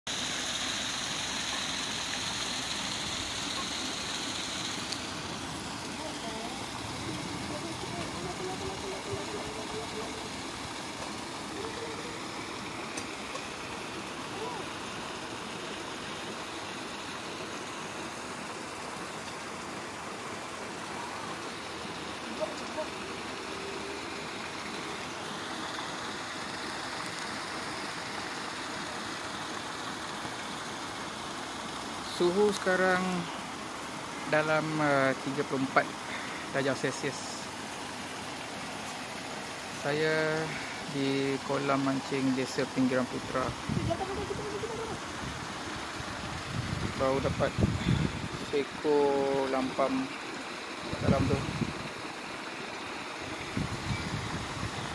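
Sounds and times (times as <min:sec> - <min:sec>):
high hiss: 0:00.1 - 0:54.9.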